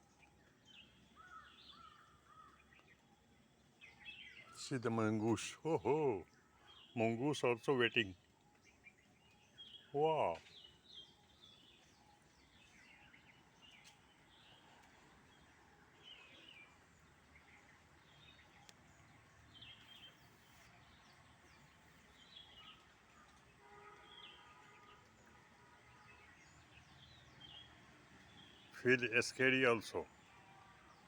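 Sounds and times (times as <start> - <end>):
bird chirps: 0.0 - 31.0.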